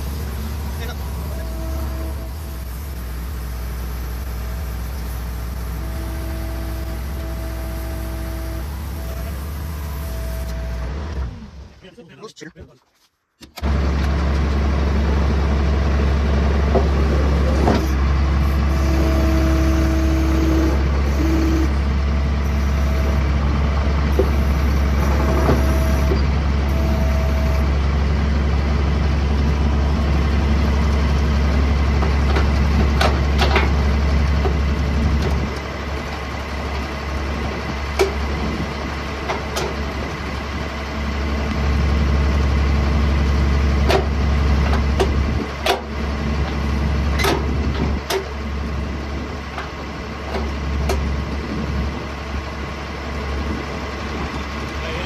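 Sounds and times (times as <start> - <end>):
skid steer engine running: 0.0 - 11.8, 13.6 - 55.0.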